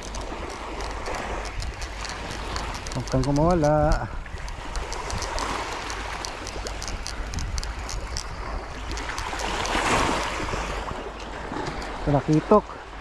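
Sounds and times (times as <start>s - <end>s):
rapid light ticks: 0.0s - 10.6s, 11.2s - 12.7s
small waves washing onto sand: 0.0s - 13.0s
wind rumbling on microphone: 0.0s - 13.0s.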